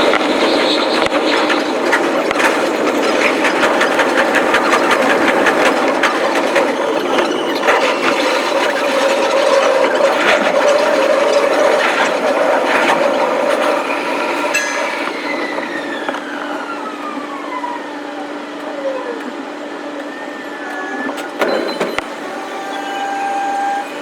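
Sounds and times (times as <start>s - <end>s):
train rumbling and clattering on track: 0.0s - 22.8s
train motor whine: 0.0s - 24.0s.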